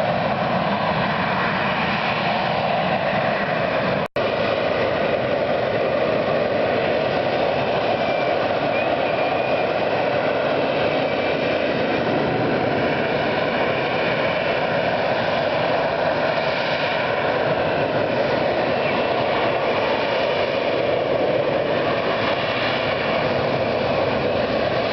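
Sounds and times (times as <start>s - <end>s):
faint turbine whine: 0.0s - 24.9s
jet engine roaring: 0.0s - 24.9s.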